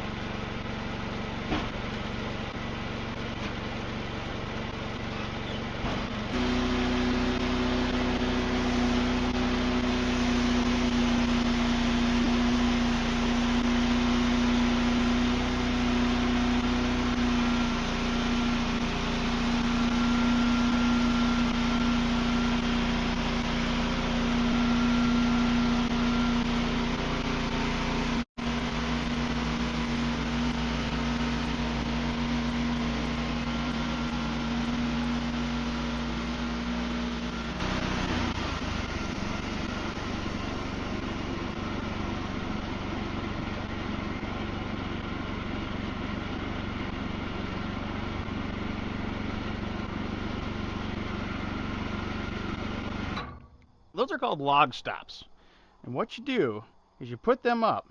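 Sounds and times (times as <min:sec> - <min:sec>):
engine running steadily: 0:00.0 - 0:53.9.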